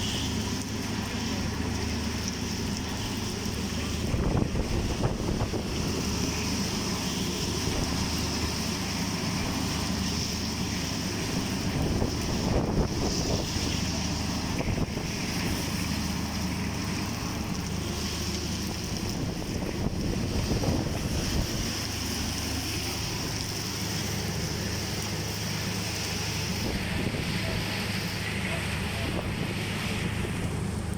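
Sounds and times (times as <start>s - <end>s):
heavy rain falling: 0.0s - 30.9s
wind rumbling on microphone: 1.0s - 30.9s.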